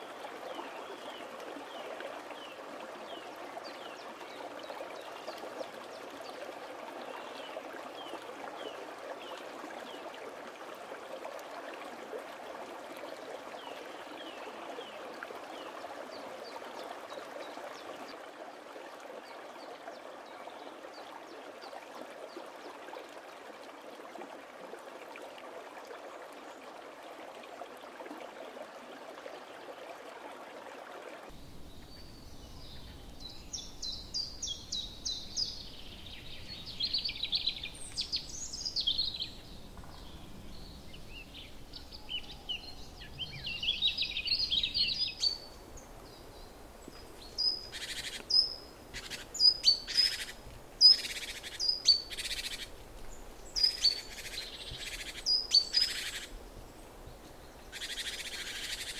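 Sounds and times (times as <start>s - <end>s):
water trickling: 0.0s - 58.9s.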